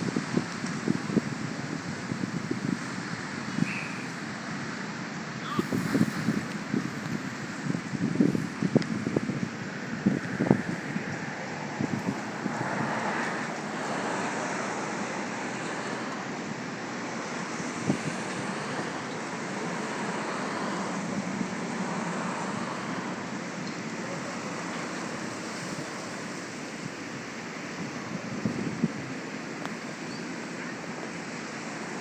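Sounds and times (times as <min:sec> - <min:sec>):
rushing outdoor background noise: 0:00.0 - 0:32.0.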